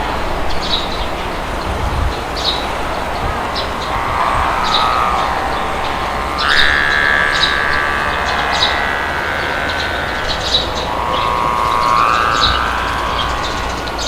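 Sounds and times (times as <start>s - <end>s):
birds chirping: 0.0s - 14.0s
wind blowing: 0.0s - 14.0s
long whistling tone: 2.2s - 14.0s.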